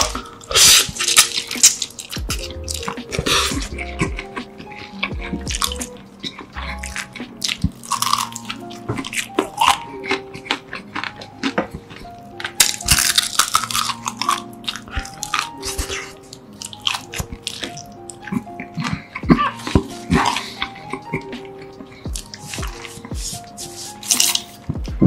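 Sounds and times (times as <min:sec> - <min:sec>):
crunching and chewing fried chicken: 0:00.0 - 0:24.6
background music of held notes: 0:00.0 - 0:25.0.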